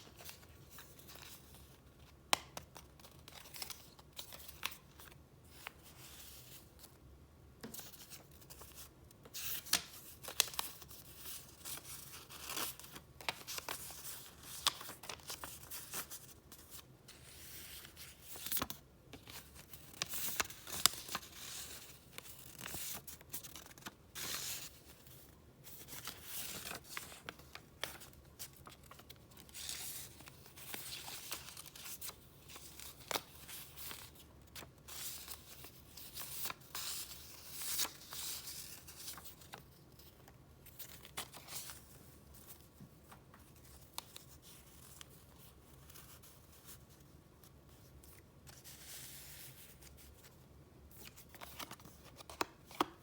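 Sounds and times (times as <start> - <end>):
paper rustling and crinkling: 7.7 - 53.0.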